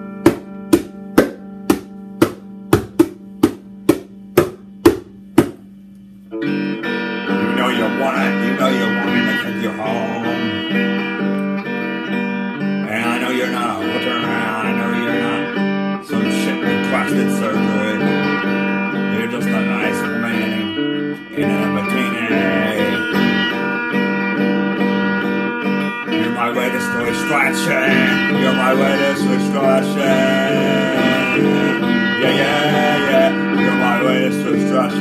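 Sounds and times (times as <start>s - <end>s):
electric guitar strumming chords: 0.0s - 35.0s.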